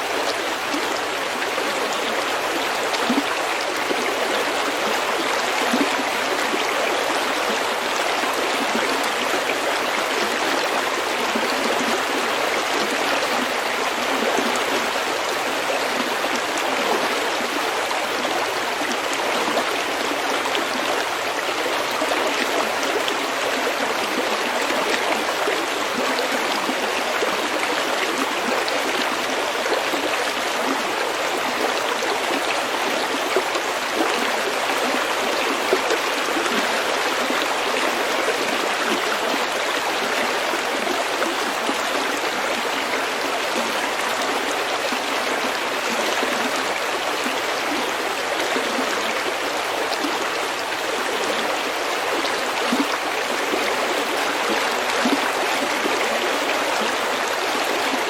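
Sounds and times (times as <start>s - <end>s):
stream flowing over pebbles: 0.0s - 58.0s.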